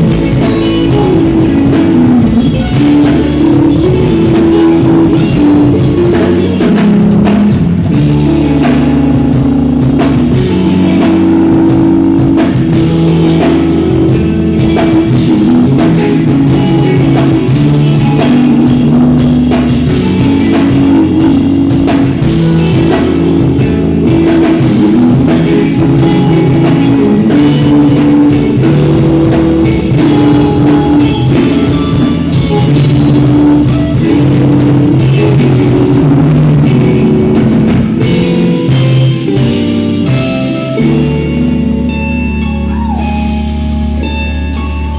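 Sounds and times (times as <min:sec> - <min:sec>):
drum kit: 0:00.0 - 0:44.9
electric guitars: 0:00.0 - 0:44.9.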